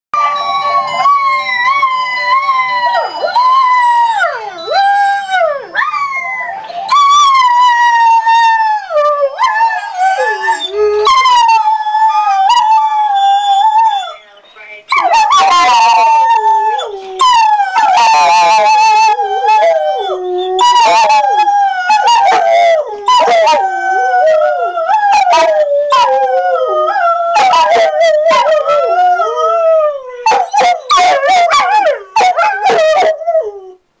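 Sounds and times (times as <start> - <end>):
dog howling: 0.9 - 14.2, 14.9 - 33.8.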